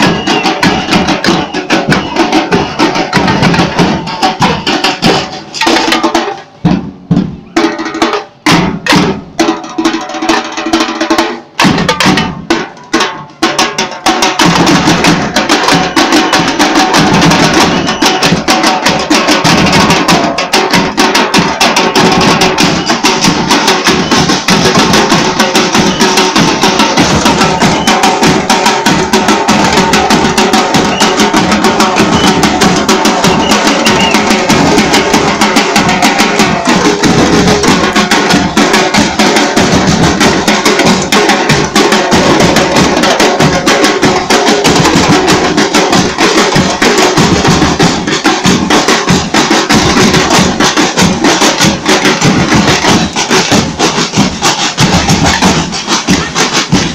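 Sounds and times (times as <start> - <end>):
drum troupe playing: 0.0 - 56.9.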